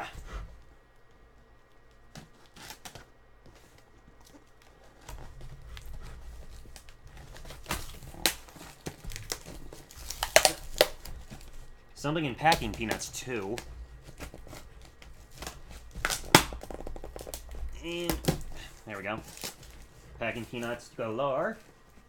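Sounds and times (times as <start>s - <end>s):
cardboard flaps and packing rustling: 0.0s - 22.0s
sharp crackles and snaps: 0.9s - 20.8s
packing tape peeled off: 2.1s - 11.7s, 12.3s - 20.6s.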